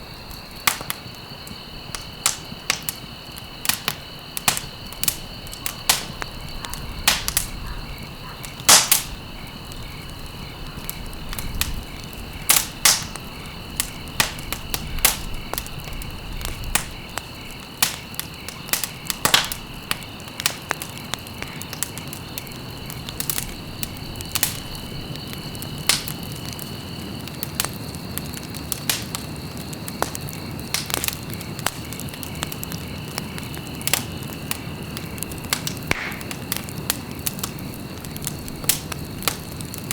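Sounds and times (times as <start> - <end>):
campfire crackling and popping: 0.0 - 39.9
crickets chirring: 0.0 - 39.9.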